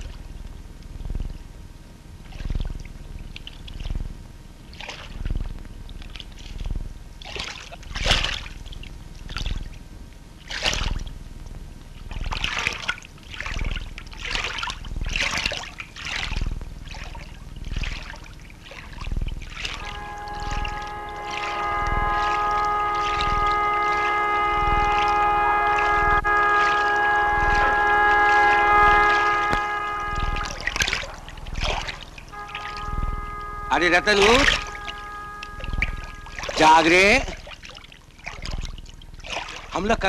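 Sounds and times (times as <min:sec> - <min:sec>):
water splashing and sloshing: 0:00.0 - 0:40.0.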